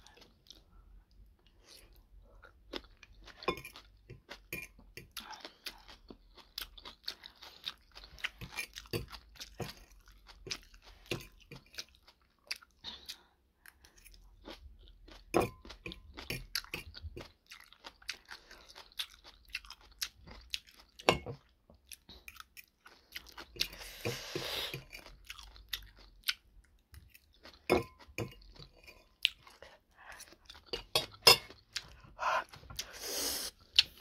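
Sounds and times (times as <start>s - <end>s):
chewing and crunching: 0.0s - 33.0s.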